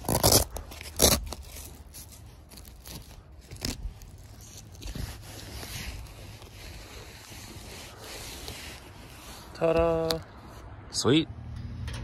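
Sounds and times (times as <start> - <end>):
canvas rustling and scraping: 0.0 - 10.6.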